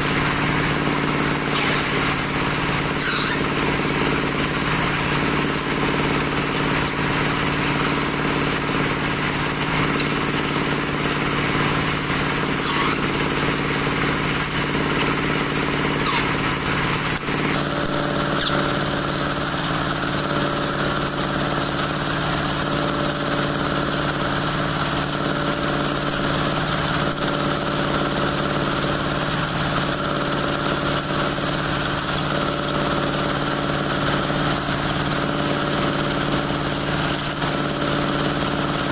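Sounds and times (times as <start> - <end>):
dowel machine droning: 0.0 - 38.9.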